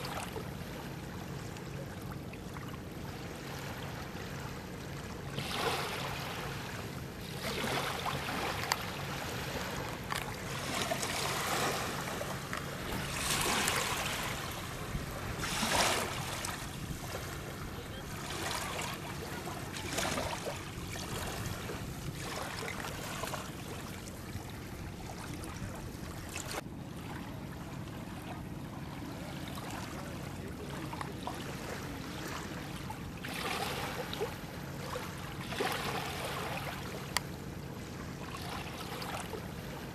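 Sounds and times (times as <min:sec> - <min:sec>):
steady low hum: 0:00.0 - 0:39.9
water splashing around boat: 0:00.0 - 0:39.9.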